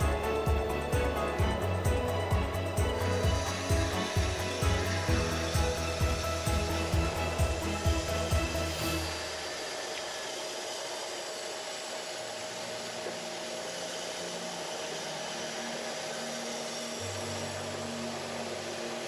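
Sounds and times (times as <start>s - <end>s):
faint steady whine: 0.0s - 19.0s
pressure washer spraying water: 0.0s - 19.0s.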